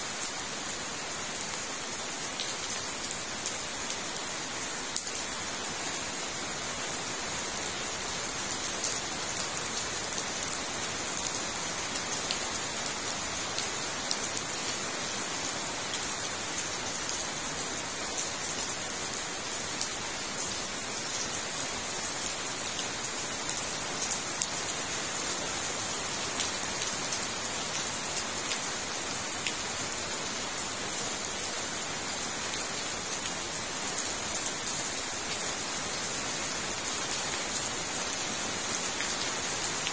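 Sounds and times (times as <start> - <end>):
rain falling on pond: 0.0 - 39.9.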